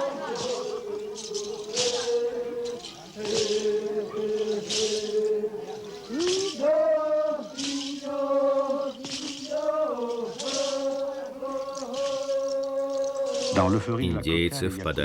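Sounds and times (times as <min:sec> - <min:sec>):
rattle shaken: 0:00.0 - 0:13.6
men chanting: 0:00.0 - 0:15.0.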